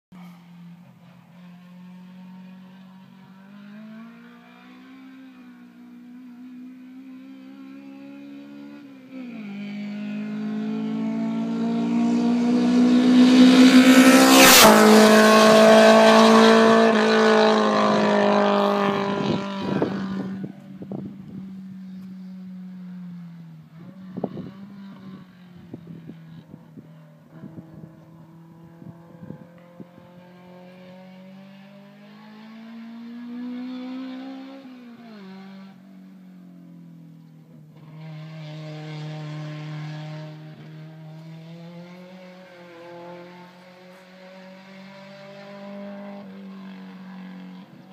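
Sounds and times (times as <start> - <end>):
car engine passing at speed: 0.2 - 47.9.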